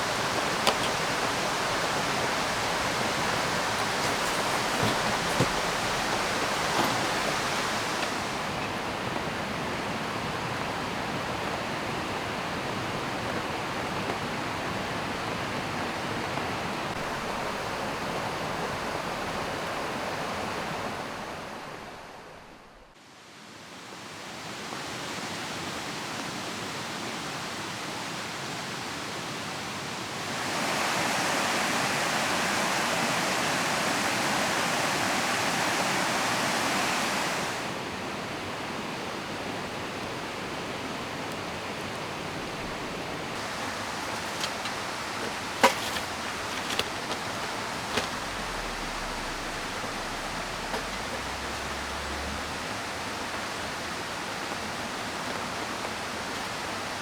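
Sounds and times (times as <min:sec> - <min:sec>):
falling rain: 0:00.0 - 0:22.4, 0:23.2 - 0:57.0
river rushing: 0:00.0 - 0:57.0.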